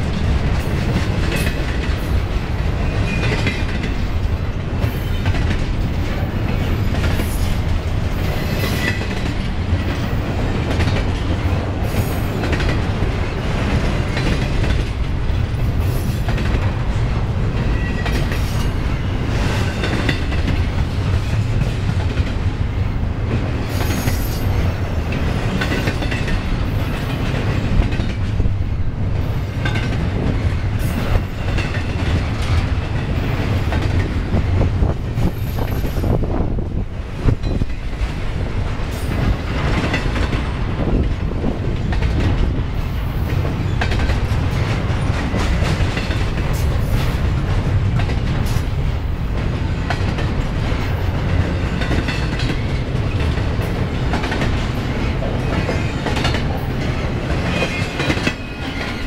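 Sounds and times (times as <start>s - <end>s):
clanks and clacks from train cars: 0.0s - 59.0s
train wheels rumbling on rail: 0.0s - 59.0s.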